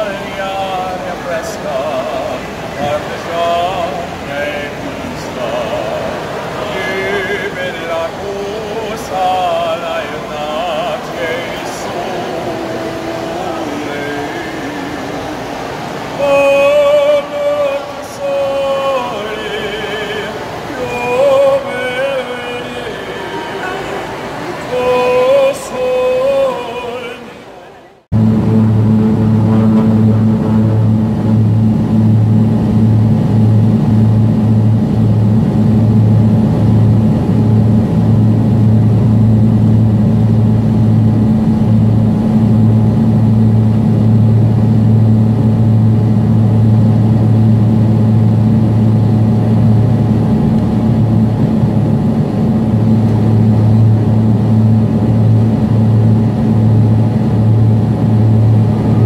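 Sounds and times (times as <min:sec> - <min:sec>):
aircraft engines from cabin: 0:00.0 - 0:26.5, 0:28.0 - 0:59.0
rushing air noise: 0:00.0 - 0:59.0.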